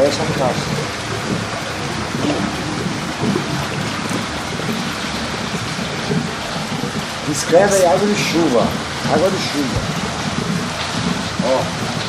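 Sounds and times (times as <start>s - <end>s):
heavy rain: 0.0s - 12.0s
running rainwater: 0.0s - 12.0s.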